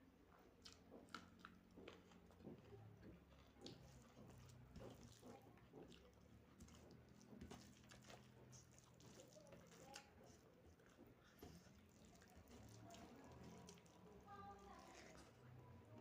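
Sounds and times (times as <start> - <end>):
chewing and wet mouth sounds: 0.1 - 16.0.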